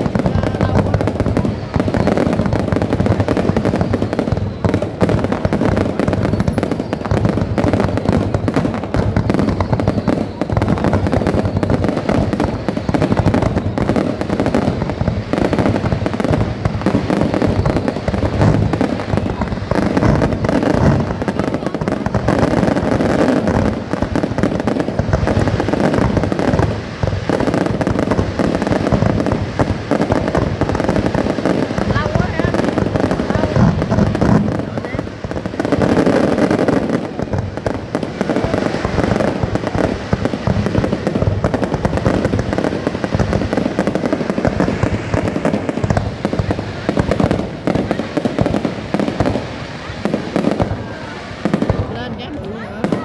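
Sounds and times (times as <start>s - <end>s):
fireworks bangs and crackling: 0.0s - 53.0s.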